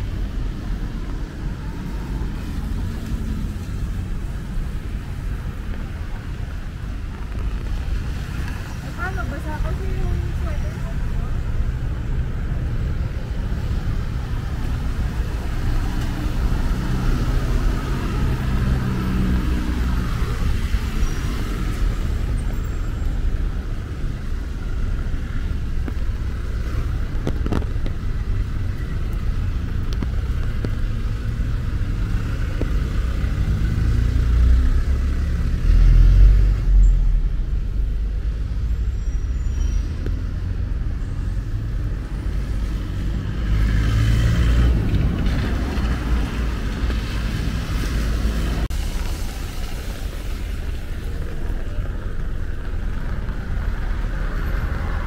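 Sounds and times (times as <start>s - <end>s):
cars driving past: 0.0s - 55.0s
steady low traffic rumble: 0.0s - 55.0s.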